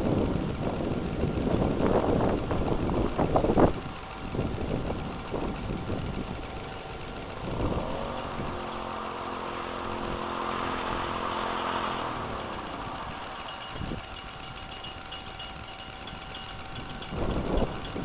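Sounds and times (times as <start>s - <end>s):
small motorbike engine revving: 0.0s - 18.0s.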